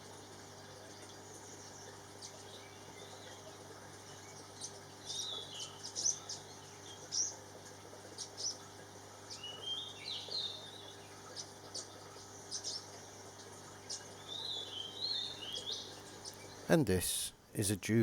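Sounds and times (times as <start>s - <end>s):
small birds chirping: 0.9s - 7.5s, 8.1s - 17.8s.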